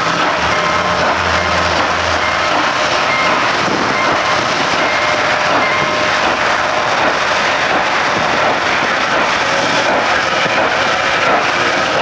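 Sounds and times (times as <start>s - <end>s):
steam locomotive exhaust roar: 0.0s - 12.0s.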